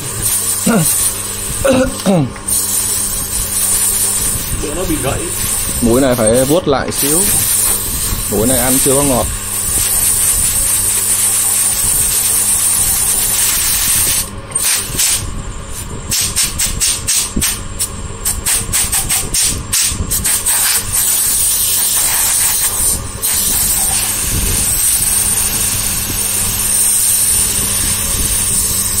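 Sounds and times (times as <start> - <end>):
drill bit stuttering: 0.0 - 15.0, 20.5 - 29.0
drill press cutting metal: 0.0 - 15.2, 20.5 - 29.0.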